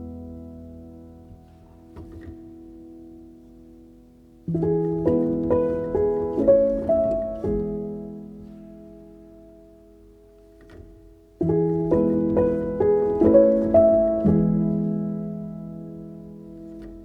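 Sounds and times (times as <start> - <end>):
soft solo piano: 0.0 - 17.0.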